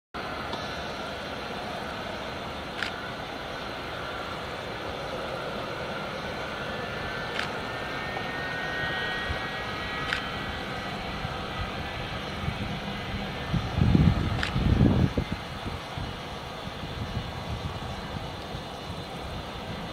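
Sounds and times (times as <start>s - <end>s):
jet engines at taxi power: 0.2s - 19.9s.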